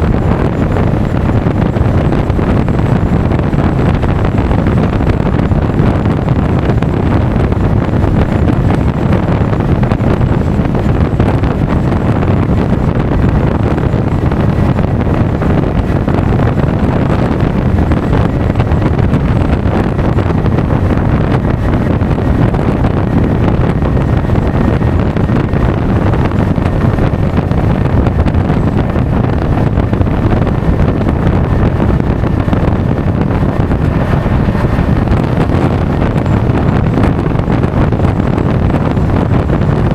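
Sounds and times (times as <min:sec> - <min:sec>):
scooter running noise: 0:00.0 - 0:39.9
wind rushing over microphone: 0:00.0 - 0:39.9.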